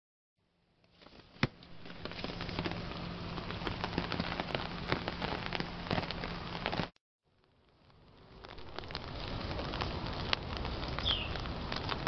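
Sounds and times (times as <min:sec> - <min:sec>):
rain pattering on umbrella: 0:01.1 - 0:12.0.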